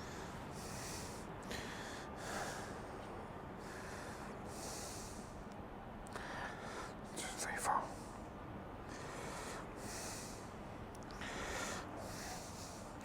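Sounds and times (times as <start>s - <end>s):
man breathing heavily through nose: 0.0s - 5.5s, 6.1s - 13.0s.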